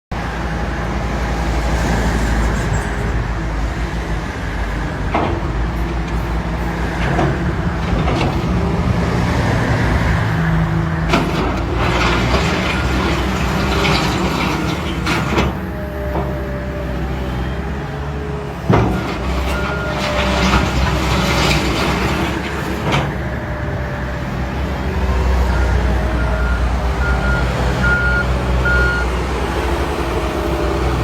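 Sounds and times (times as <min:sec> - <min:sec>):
diesel machinery engine rumble: 0:00.2 - 0:31.0.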